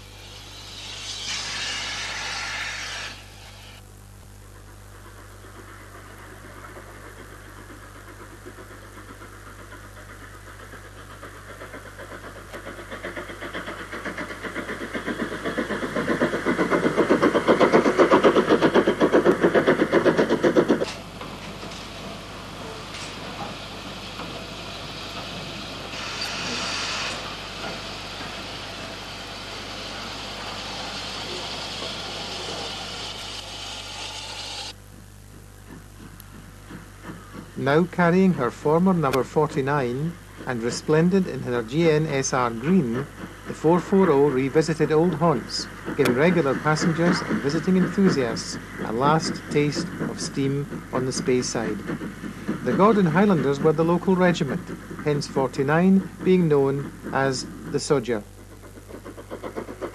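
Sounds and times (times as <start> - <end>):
steam hiss: 0.0 - 3.8, 5.0 - 34.8, 37.5 - 58.3
steam locomotive exhaust beats: 0.0 - 59.9.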